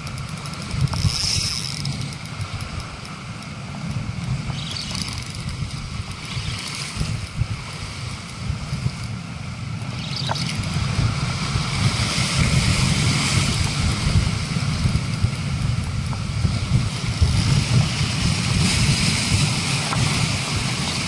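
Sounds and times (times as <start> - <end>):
sea washing over rocks: 0.0 - 21.0
wind rumble on microphone: 0.0 - 21.0.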